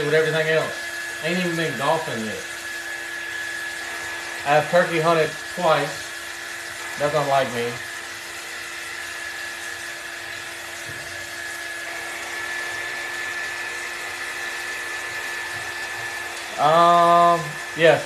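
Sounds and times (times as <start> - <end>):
heat tool fan whine: 0.0 - 18.0.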